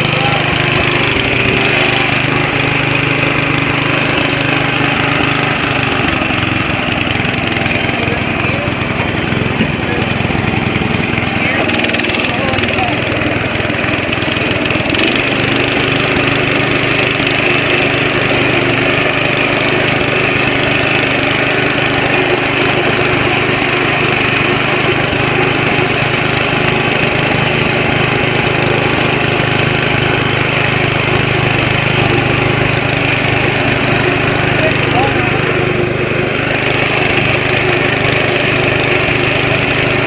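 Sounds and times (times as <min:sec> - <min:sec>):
riding lawn mower engine running: 0:00.0 - 0:40.0.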